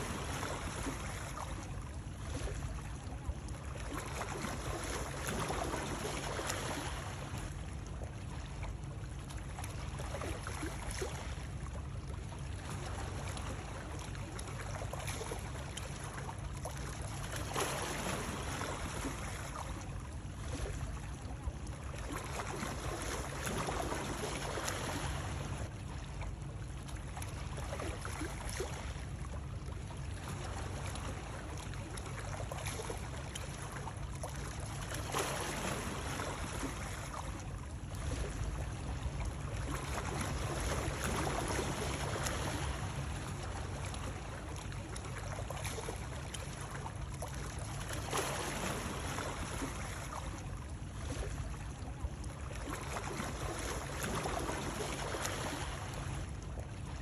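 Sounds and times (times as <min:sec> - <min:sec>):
splashing water with low rumble: 0:00.0 - 0:57.0.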